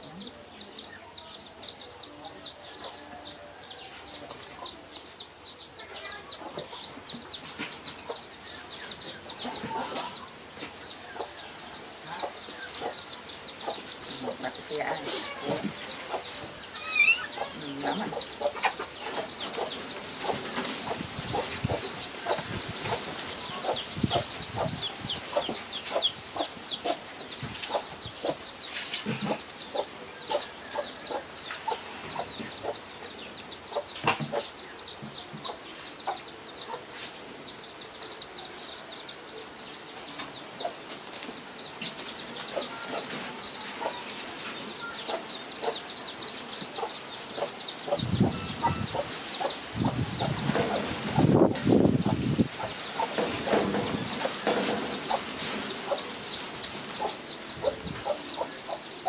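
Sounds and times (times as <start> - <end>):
animals chirping rapidly: 4.0 - 36.9, 41.6 - 59.0.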